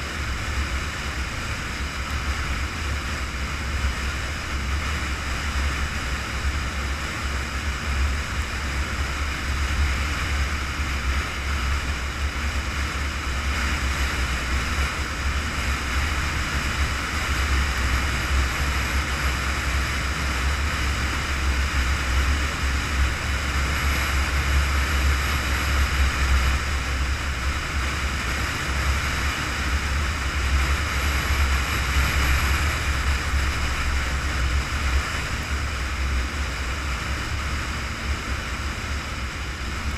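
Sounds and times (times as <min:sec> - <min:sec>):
tyre road noise: 0:00.0 - 0:39.9
wind rush: 0:00.0 - 0:39.9.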